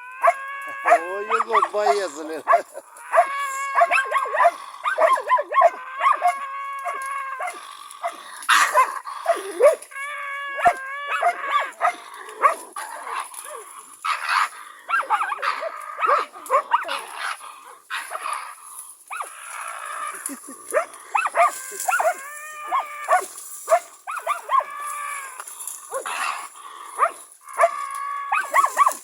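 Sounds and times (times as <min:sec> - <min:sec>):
dog howling: 0:00.0 - 0:29.0
dogs barking and yelping: 0:00.0 - 0:29.0.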